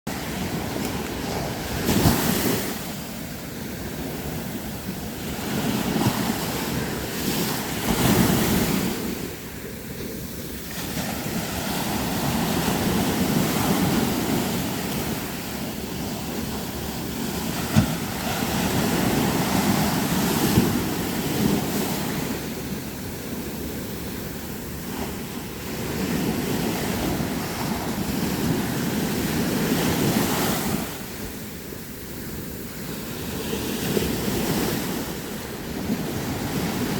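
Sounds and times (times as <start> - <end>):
surf breaking on a beach: 0.1 - 36.9.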